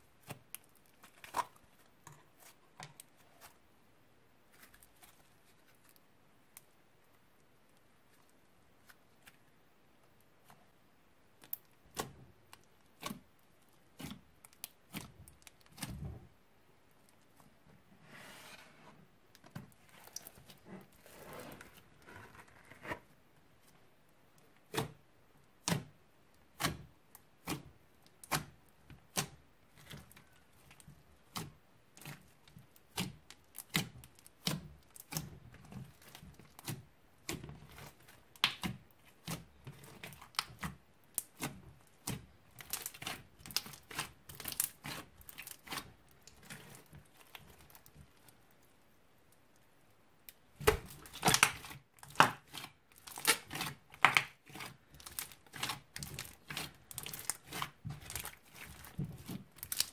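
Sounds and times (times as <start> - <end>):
slime kneaded with sticky crackling: 0.0 - 3.8, 4.4 - 17.7, 19.3 - 59.9.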